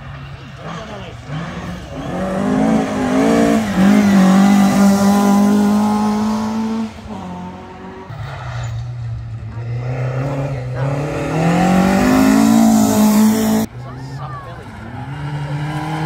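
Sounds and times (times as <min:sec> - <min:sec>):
rally car approaching: 0:00.0 - 0:16.0
rally car engine at high revs: 0:00.0 - 0:16.0.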